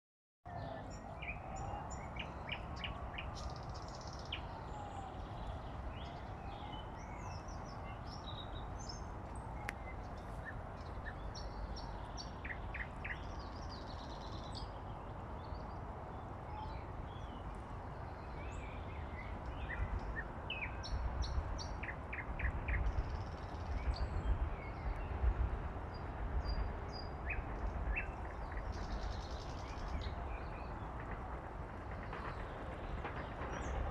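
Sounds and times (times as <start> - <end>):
steady outdoor rumble: 0.5 - 33.9.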